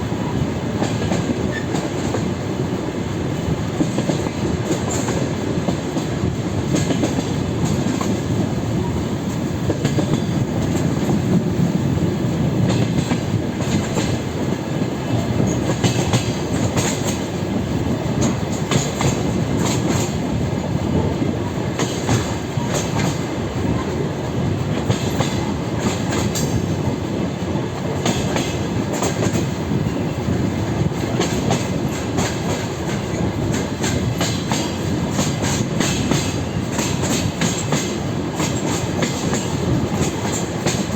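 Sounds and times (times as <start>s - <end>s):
train wheels clattering over rail joints: 0.7s - 2.4s, 3.5s - 11.6s, 12.6s - 40.9s.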